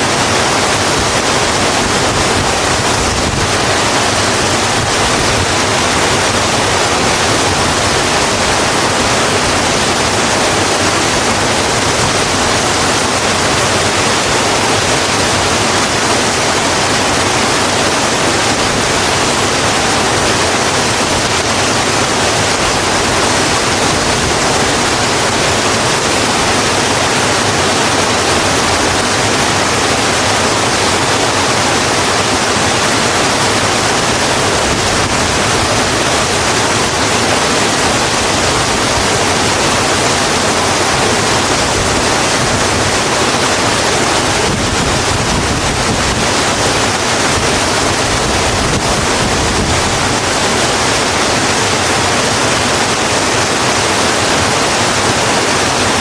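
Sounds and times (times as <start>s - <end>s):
rain falling on a road: 0.1s - 56.0s.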